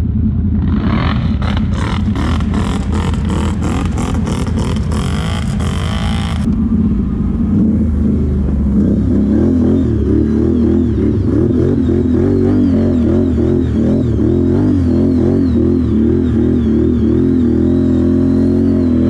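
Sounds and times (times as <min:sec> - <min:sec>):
quad bike engine revving: 0:00.5 - 0:19.0.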